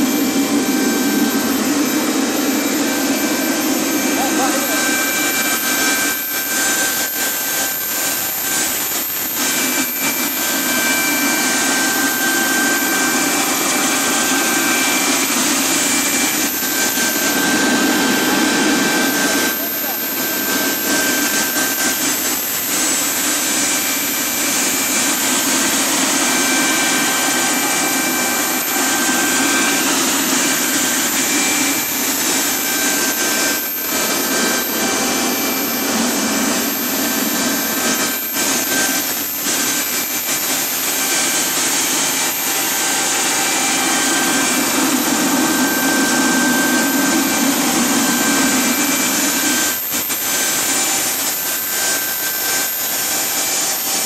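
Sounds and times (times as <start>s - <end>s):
gas turbine roar: 0.0s - 54.0s
high steady whining tones: 0.0s - 54.0s.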